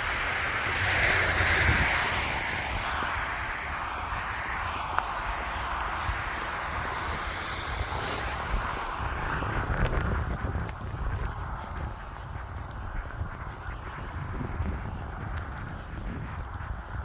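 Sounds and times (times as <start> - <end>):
deep rumble: 0.0 - 17.0
passing road traffic: 0.0 - 17.0
wind roaring: 0.0 - 17.0.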